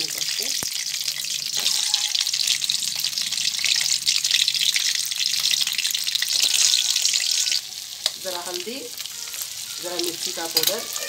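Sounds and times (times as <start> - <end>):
eggs sizzling in hot oil: 0.0 - 11.0.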